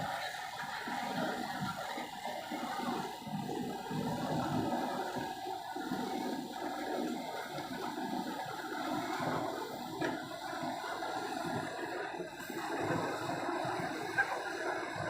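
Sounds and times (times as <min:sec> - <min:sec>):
water rushing and churning: 0:00.0 - 0:15.0.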